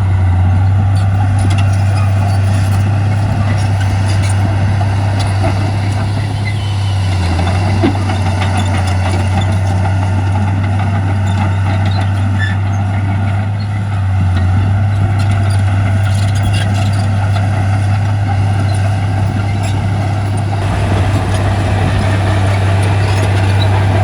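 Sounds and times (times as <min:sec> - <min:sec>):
diesel machinery engine drone: 0:00.0 - 0:24.0.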